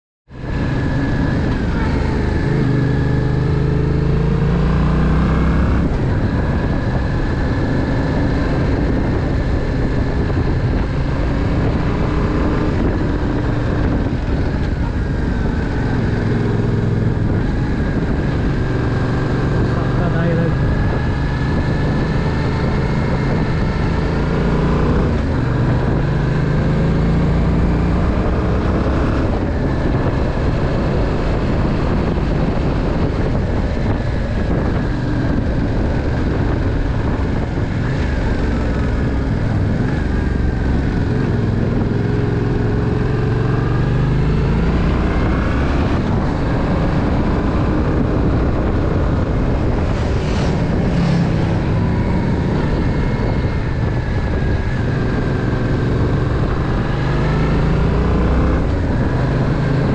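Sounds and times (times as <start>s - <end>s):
motorcycle engine revving: 0.3s - 59.9s.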